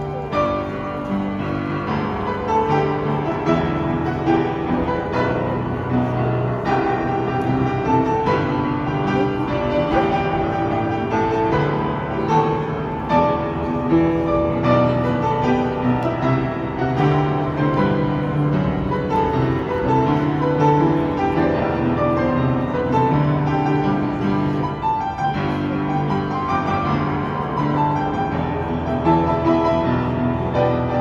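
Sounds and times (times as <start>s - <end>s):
piano playing: 0.0s - 31.0s.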